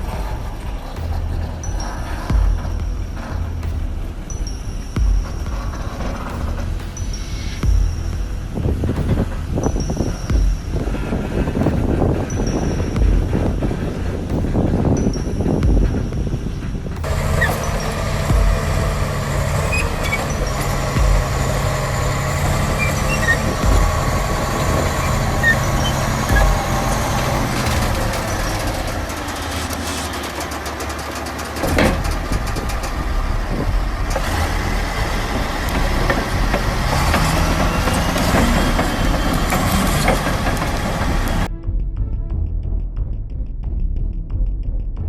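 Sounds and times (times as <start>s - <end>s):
dull low thumps: 0.0s - 30.1s, 31.6s - 45.0s
diesel engine running under load: 0.0s - 41.5s.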